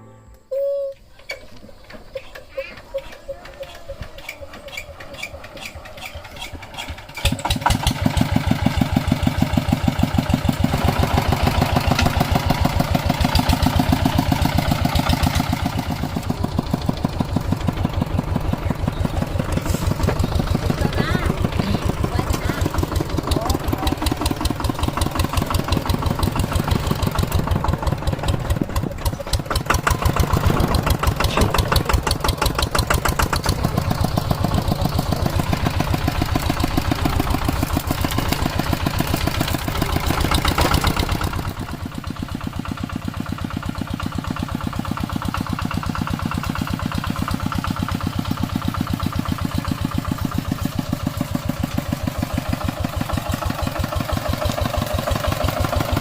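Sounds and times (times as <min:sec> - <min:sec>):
diesel engine knocking: 0:01.7 - 0:56.0.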